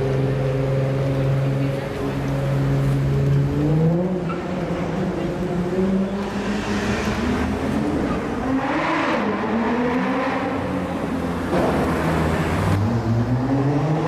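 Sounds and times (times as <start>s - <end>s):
car engines revving past: 0.2s - 14.0s.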